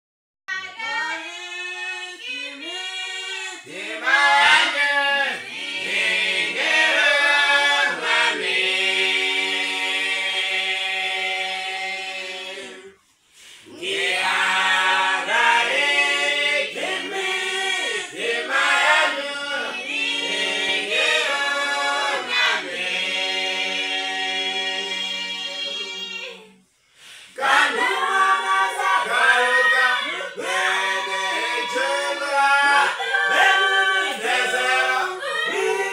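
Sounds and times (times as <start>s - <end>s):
group singing a hymn a cappella: 0.5s - 35.9s.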